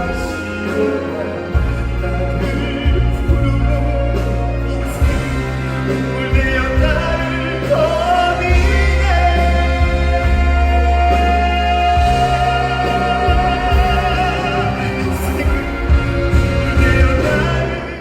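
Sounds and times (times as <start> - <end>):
band playing through pa: 0.0 - 18.0
bass line: 0.0 - 18.0
person singing: 0.0 - 18.0.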